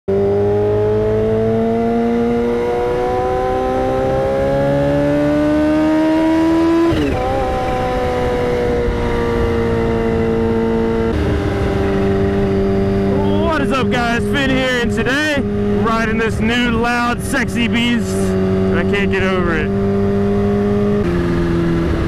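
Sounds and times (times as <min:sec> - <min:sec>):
motorcycle engine revving: 0:00.1 - 0:22.0.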